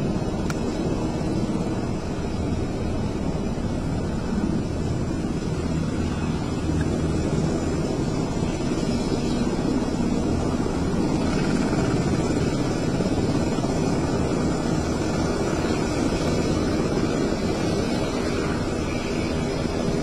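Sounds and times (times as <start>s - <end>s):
aircraft engines rumbling: 0.0s - 20.0s.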